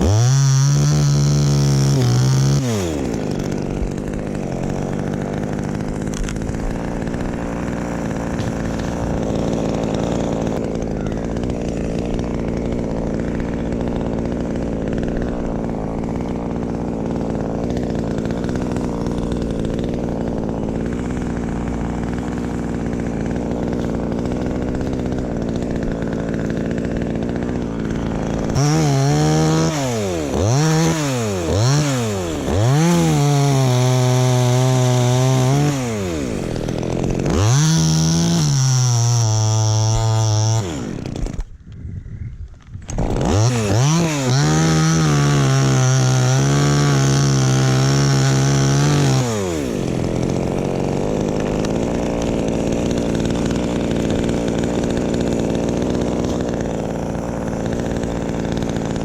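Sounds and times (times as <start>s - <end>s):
chainsaw engine revving: 0.0s - 41.6s, 42.6s - 59.0s.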